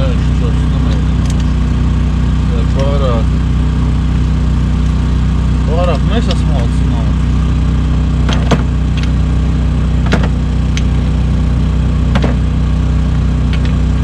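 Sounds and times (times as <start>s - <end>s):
small motor droning: 0.0s - 14.0s.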